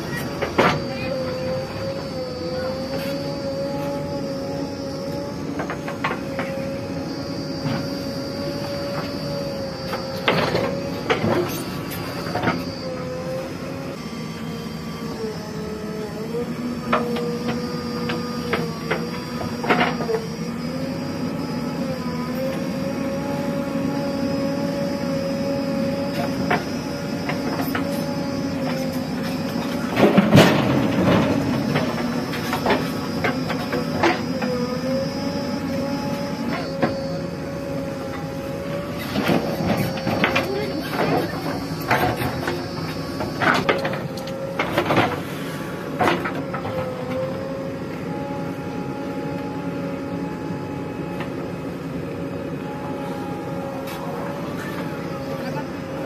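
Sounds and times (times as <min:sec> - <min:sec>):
diesel engine under load: 0:00.0 - 0:56.0
high whine: 0:00.0 - 0:56.0.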